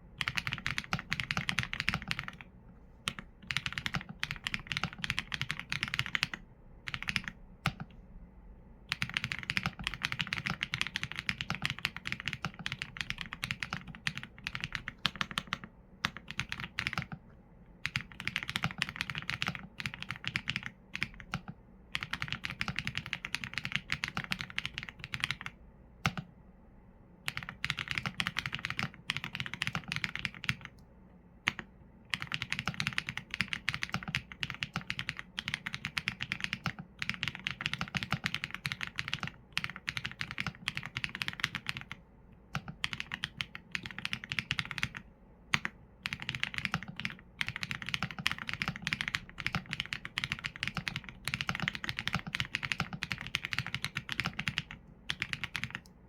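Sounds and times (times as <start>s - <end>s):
mechanical keyboard typing: 0.2s - 2.5s, 3.1s - 8.0s, 8.9s - 17.2s, 17.8s - 26.3s, 27.3s - 30.8s, 31.5s - 56.0s.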